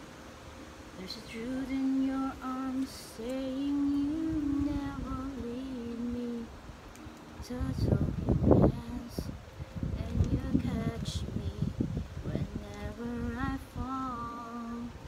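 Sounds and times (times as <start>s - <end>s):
woman singing softly: 0.9s - 15.0s.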